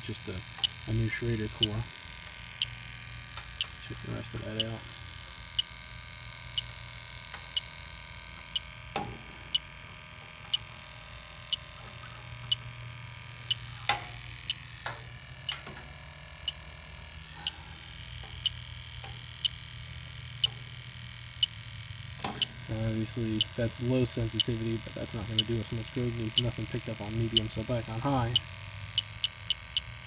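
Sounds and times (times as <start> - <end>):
leak detector ticking: 0.0 - 30.0
steady low hum: 0.0 - 30.0.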